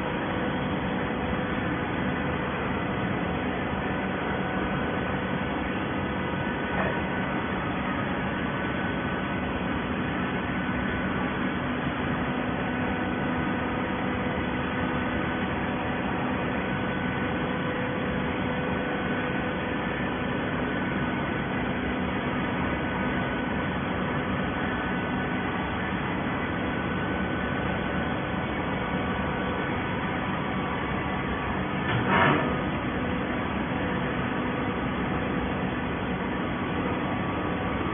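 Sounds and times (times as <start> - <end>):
baler machine hum: 0.0 - 37.9.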